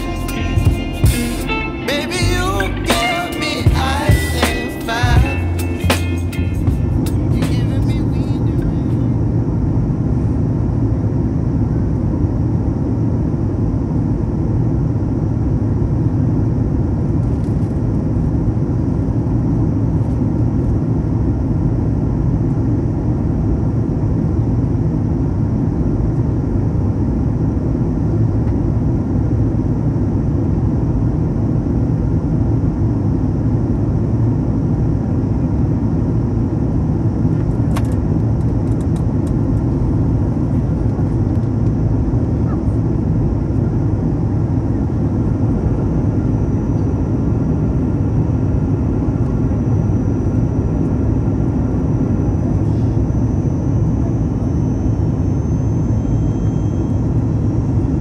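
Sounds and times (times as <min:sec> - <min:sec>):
jet engine drone: 0:00.0 - 0:58.0.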